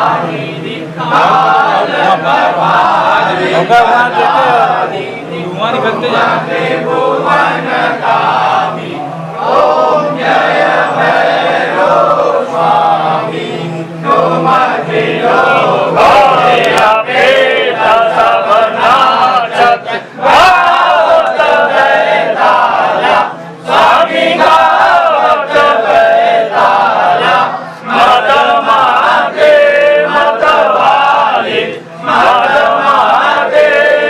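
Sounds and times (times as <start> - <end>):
men chanting a hymn: 0.0 - 34.0
steady low hum: 0.0 - 34.0.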